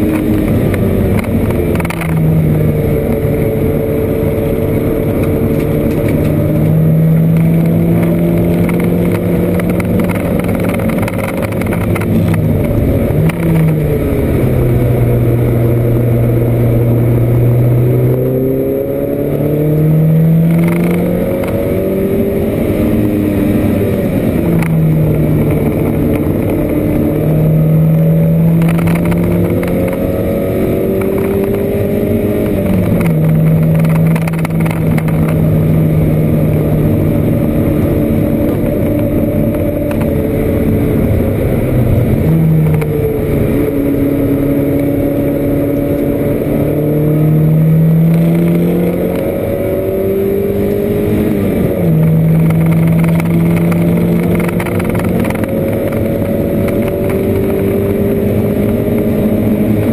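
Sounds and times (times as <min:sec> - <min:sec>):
race car engine under load: 0:00.0 - 0:59.9.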